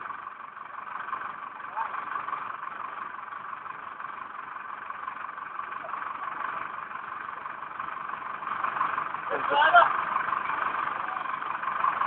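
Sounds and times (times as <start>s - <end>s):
digger engine running: 0.0s - 12.0s.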